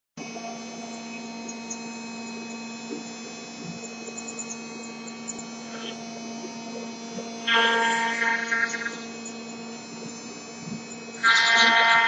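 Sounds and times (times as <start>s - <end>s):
spindle motor humming: 0.2s - 12.0s.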